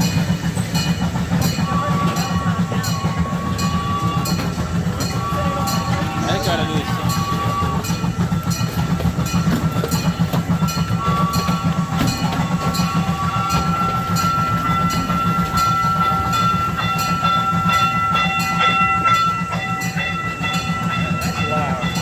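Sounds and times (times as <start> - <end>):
ride train rumbling on track: 0.0 - 22.0
wheels clicking over rail joints: 0.0 - 22.0.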